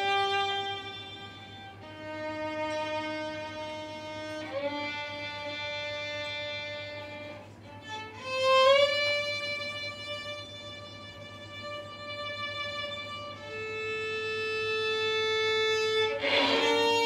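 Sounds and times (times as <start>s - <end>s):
solo violin long notes: 0.0s - 17.0s.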